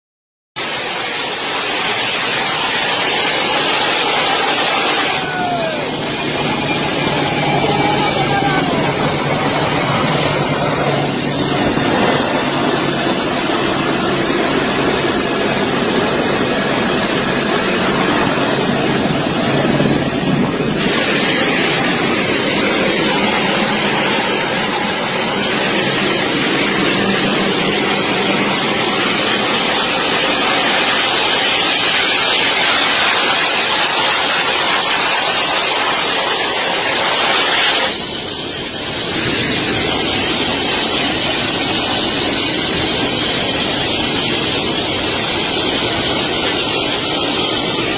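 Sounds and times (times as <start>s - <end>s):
jet engine roaring: 0.6s - 47.9s.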